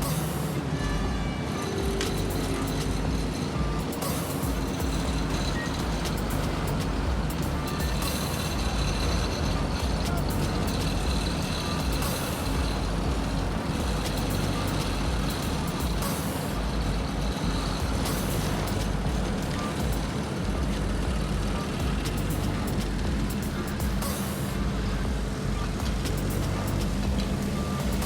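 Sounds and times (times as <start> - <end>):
diesel paving machinery running: 0.0 - 28.0.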